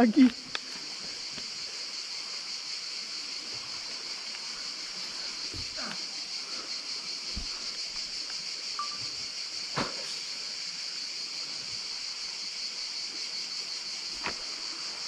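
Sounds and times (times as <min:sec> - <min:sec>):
high-pitched outdoor hiss: 0:00.0 - 0:15.0.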